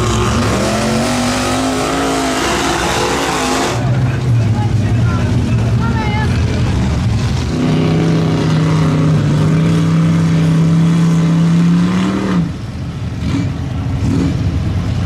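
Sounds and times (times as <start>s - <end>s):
tires churning through mud: 0.0s - 15.0s
truck engine revving: 0.0s - 15.0s.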